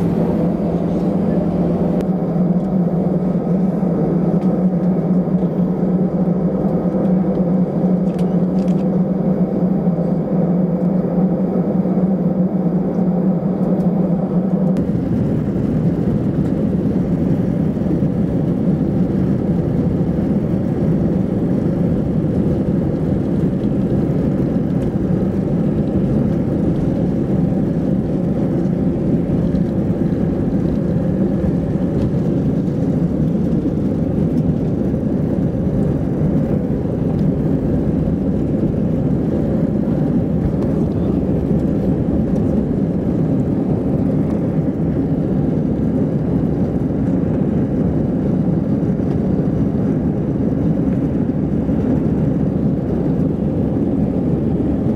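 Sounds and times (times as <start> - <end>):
jet engines roaring in cabin: 0.0 - 54.9.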